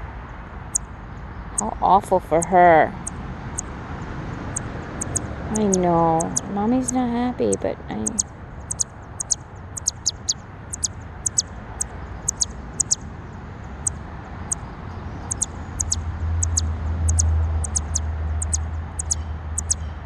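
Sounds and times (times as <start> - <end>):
songbird alarm chirps: 0.0 - 20.0.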